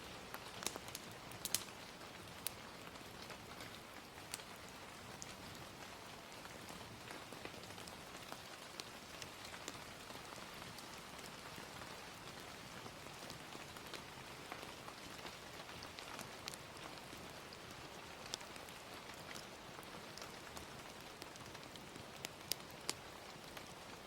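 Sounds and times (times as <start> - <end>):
gentle rain hissing: 0.0 - 24.0
wood fire crackling: 0.0 - 24.0.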